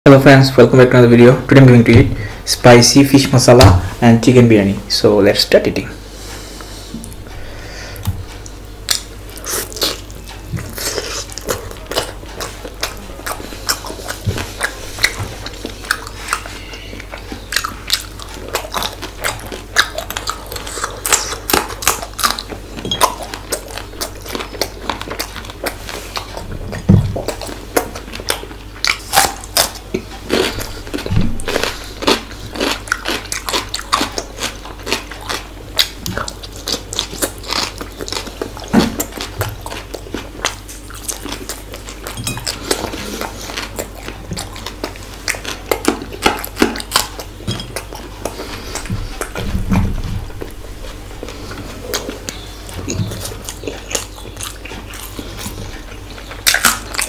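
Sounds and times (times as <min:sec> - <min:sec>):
person chewing food: 0:06.0 - 0:57.0.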